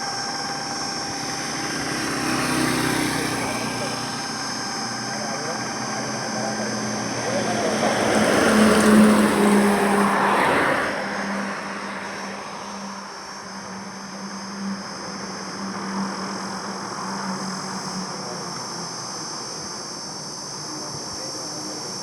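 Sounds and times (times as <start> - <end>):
highway traffic noise: 0.0 - 22.0
low engine hum: 0.0 - 22.0.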